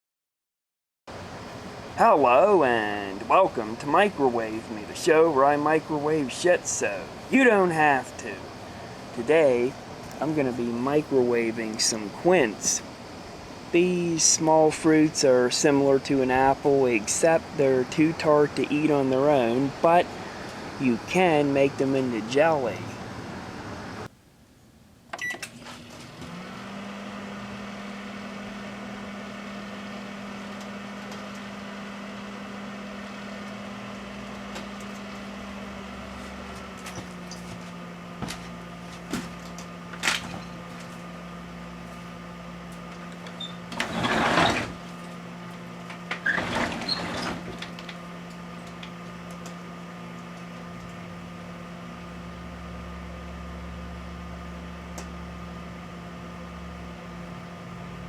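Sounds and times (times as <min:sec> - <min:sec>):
microwave oven humming: 0:01.1 - 0:24.1, 0:25.2 - 0:58.0.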